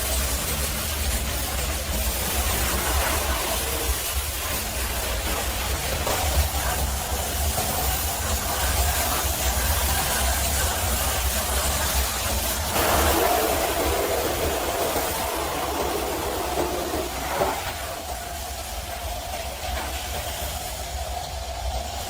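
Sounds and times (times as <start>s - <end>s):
high-pressure water spray hissing: 0.0s - 22.0s.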